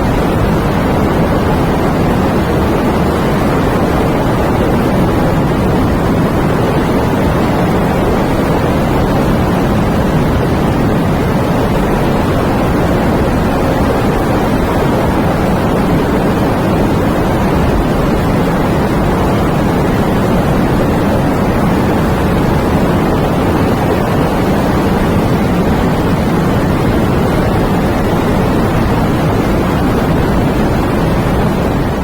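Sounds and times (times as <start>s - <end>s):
wind and rain rushing: 0.0s - 32.0s.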